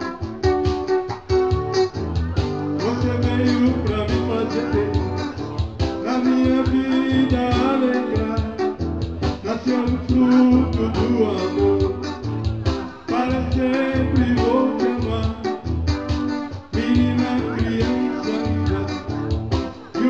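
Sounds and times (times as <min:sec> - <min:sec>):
guitar playing: 0:00.0 - 0:20.0
steady drum beat: 0:00.0 - 0:20.0.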